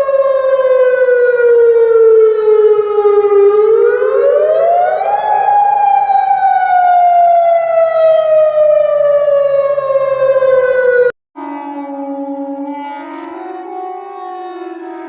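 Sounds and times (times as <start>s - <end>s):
siren wail: 0.0s - 15.0s.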